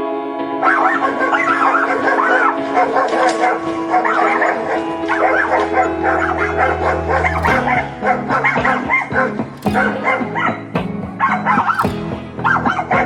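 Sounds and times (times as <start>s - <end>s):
background music: 0.0s - 13.0s
dogs barking: 0.6s - 13.0s.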